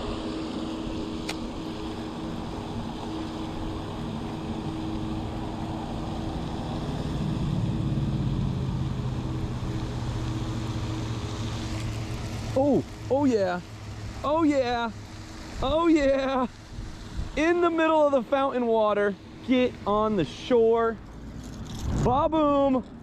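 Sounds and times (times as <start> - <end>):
deep drone: 0.0 - 23.0
low motor hum: 0.0 - 23.0.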